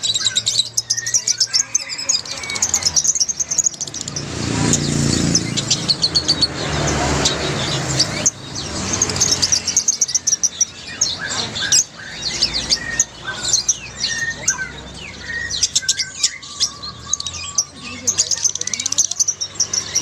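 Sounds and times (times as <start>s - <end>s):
lovebirds chattering: 0.0s - 20.0s.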